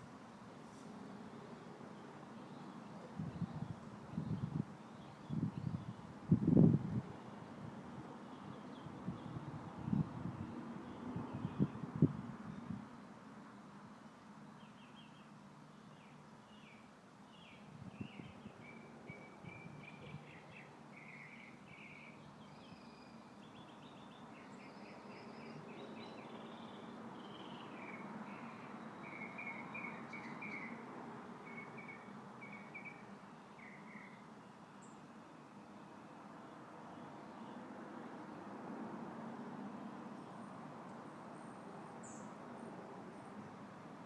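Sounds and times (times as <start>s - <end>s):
soft breeze: 0.0s - 44.0s
songbirds chirping: 0.0s - 44.0s.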